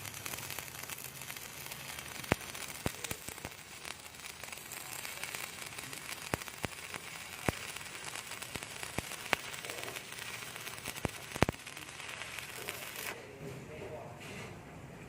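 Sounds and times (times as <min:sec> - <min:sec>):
sharp welding pops: 0:00.0 - 0:13.2
arc welding crackling sizzle: 0:00.0 - 0:13.4.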